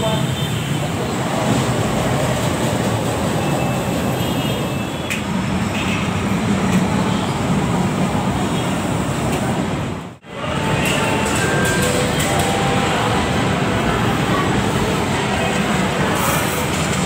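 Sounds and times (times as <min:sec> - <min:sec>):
light rail wheels and motors: 0:00.0 - 0:17.0.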